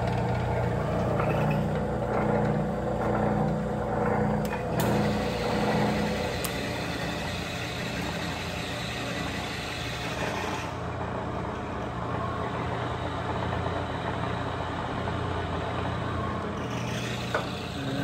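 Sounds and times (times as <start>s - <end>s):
drill press motor humming: 0.0s - 18.0s.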